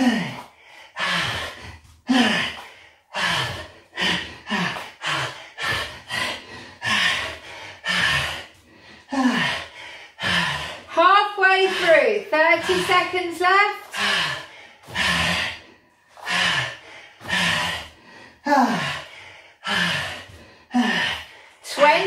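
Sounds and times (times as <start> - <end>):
man breathing hard with grunts: 0.0 - 10.9, 13.8 - 21.6.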